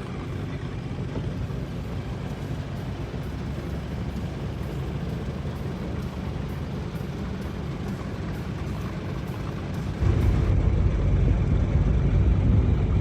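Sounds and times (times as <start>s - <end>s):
motorboat engine drone: 0.0s - 13.0s
water and air noise: 0.0s - 13.0s.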